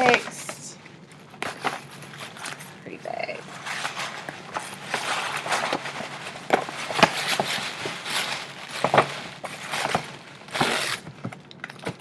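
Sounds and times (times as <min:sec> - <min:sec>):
gift bag rustling and crinkling: 0:00.0 - 0:12.0.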